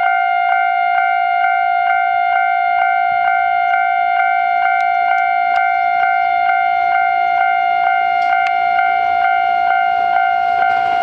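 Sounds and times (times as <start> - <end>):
level crossing warning bell: 0.0 - 11.0.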